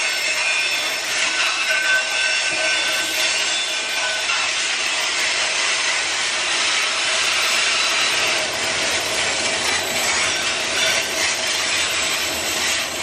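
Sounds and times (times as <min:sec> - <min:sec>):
train wheels grinding on rails: 0:00.0 - 0:13.0.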